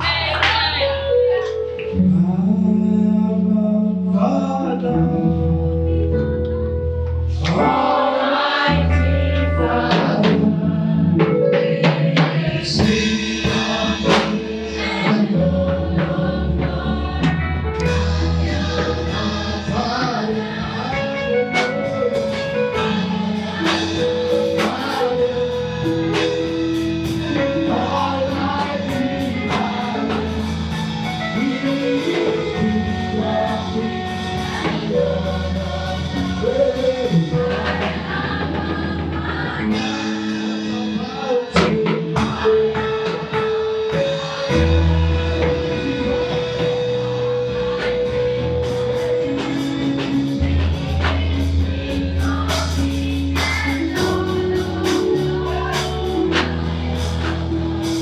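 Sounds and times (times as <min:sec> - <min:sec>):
bass line: 0:00.0 - 0:58.0
choir singing gospel music: 0:00.0 - 0:58.0
drums: 0:00.0 - 0:58.0.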